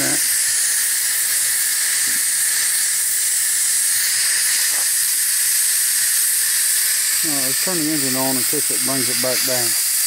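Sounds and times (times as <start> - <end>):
safety valve venting steam hiss: 0.0 - 10.0.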